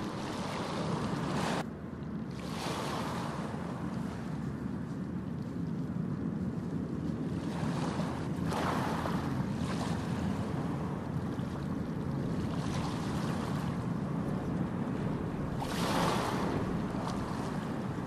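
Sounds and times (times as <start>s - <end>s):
ocean waves washing onto beach: 0.0s - 18.0s.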